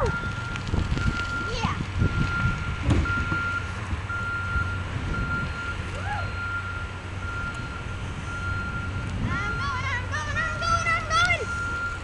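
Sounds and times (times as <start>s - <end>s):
reversing alarm beeps: 0.0s - 9.8s, 11.3s - 12.0s
low engine rumble: 0.0s - 12.0s.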